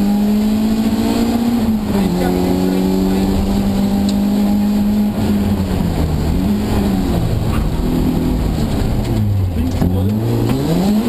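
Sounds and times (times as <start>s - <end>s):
car engine revving: 0.0s - 11.0s
road noise: 0.0s - 11.0s.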